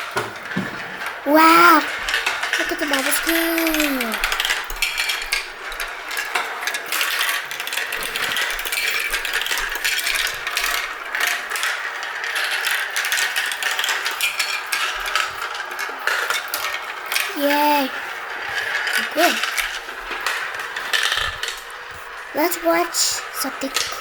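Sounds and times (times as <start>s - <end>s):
marbles rattling down a track: 0.1s - 24.0s.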